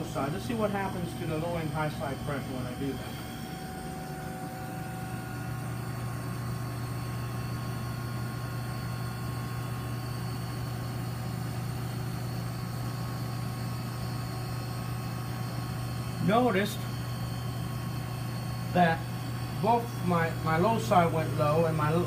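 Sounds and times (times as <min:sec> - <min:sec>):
refrigeration unit humming: 0:00.0 - 0:22.0.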